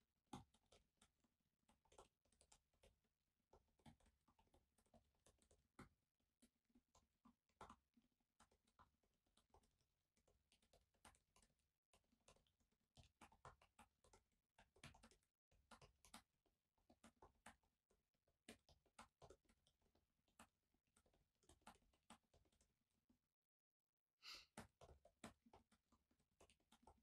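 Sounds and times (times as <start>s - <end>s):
laptop keyboard typing: 0.3s - 17.8s, 18.4s - 22.9s, 24.6s - 27.0s.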